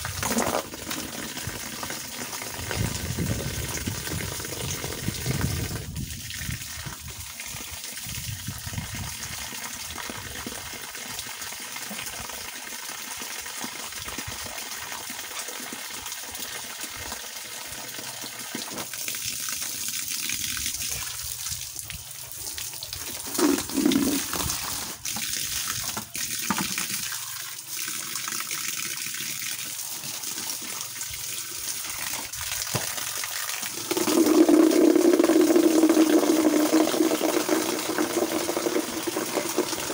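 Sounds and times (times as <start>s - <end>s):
water from hose splashing on grass: 0.0s - 39.9s.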